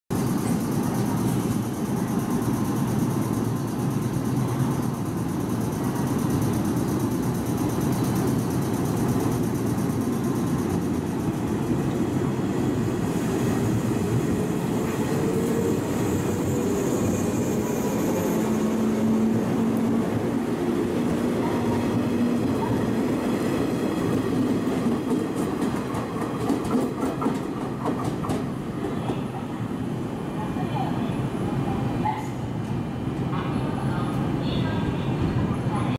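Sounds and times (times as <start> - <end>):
electric train running rumble: 0.1 - 35.9.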